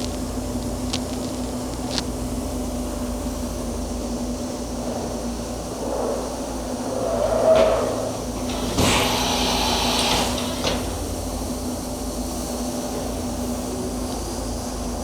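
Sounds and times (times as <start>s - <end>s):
air hiss: 0.0s - 13.8s.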